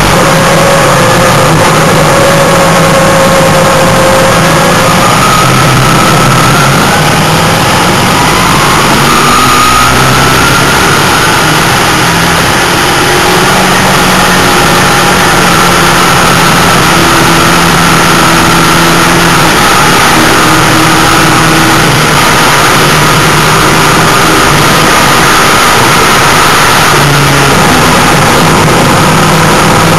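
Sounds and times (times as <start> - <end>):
race car engine revving: 0.0 - 29.9.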